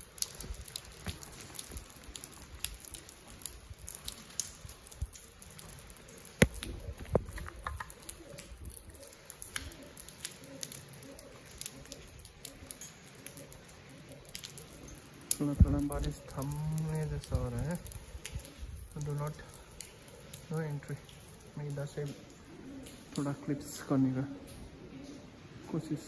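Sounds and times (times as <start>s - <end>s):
rain dripping and pattering: 0.0s - 26.0s.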